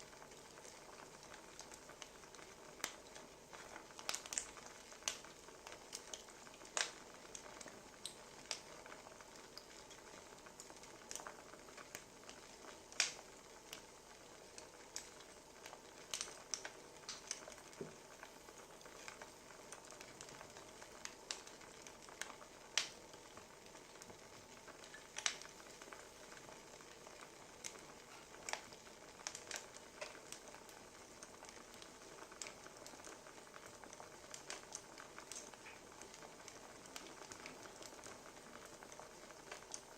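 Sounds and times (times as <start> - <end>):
soft steady hiss: 0.0 - 39.9
wood fire crackling: 0.0 - 39.9.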